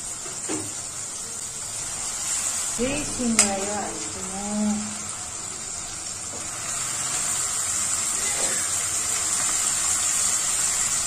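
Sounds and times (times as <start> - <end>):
greens sizzling in hot oil: 0.0 - 11.0.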